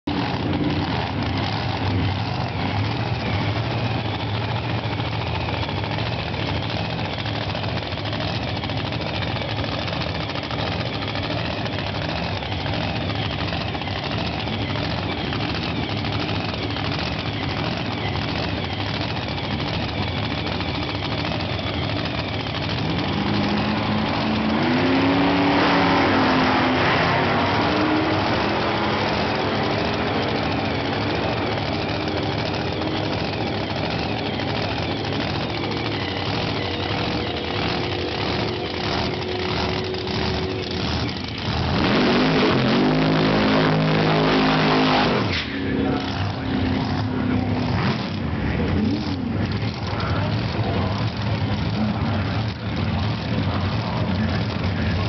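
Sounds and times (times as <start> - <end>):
drag-racing engine revving: 0.0 - 55.0.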